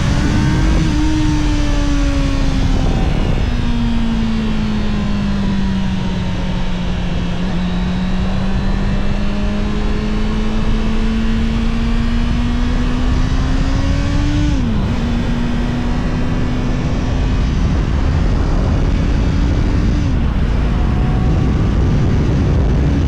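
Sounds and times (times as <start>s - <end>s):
motorcycle engine accelerating: 0.0s - 23.0s
wind rumble on microphone: 0.0s - 23.0s.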